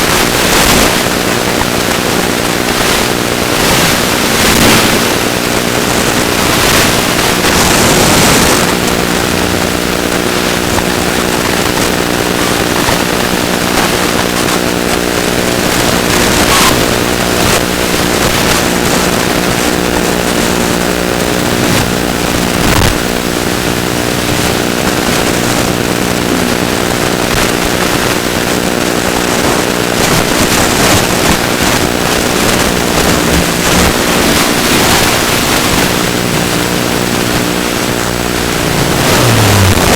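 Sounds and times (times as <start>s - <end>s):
wind rush: 0.0s - 20.5s, 21.7s - 39.9s.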